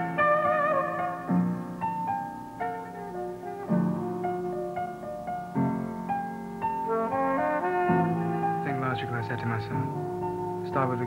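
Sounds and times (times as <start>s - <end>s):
slow instrumental melody: 0.0s - 11.0s.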